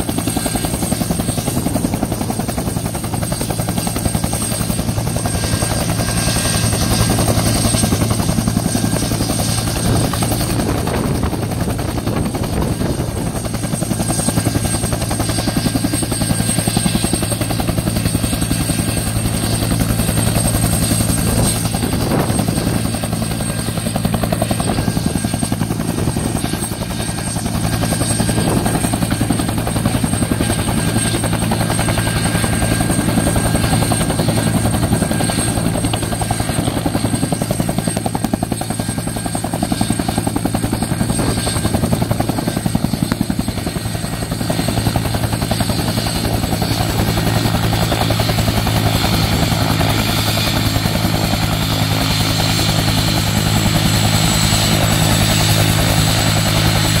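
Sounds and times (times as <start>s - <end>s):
helicopter rotor beat: 0.0s - 57.0s.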